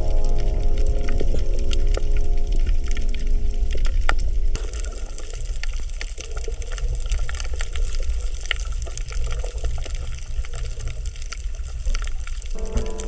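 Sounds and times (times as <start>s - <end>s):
low rumble of moving water: 0.0s - 13.0s
underwater crackles and clicks: 0.0s - 13.0s.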